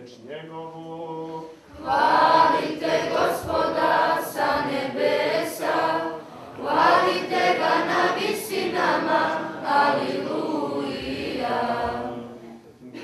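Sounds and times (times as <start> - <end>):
choir singing a cappella: 1.2 - 12.6.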